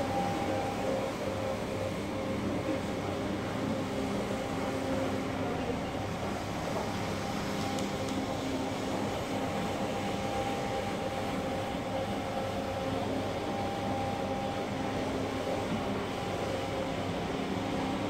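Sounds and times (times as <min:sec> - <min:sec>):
carpet shampooing machine humming: 0:00.0 - 0:18.0.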